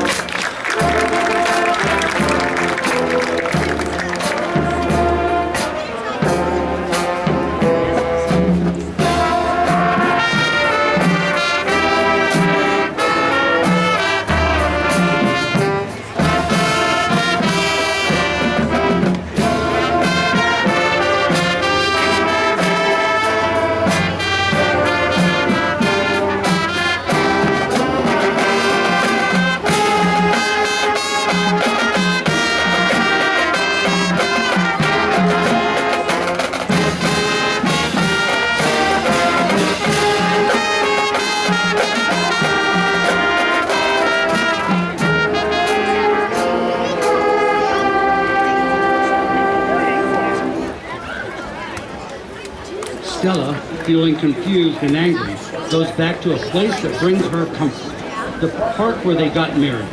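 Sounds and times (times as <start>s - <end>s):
marching band brass playing: 0.0s - 51.6s, 52.2s - 59.9s.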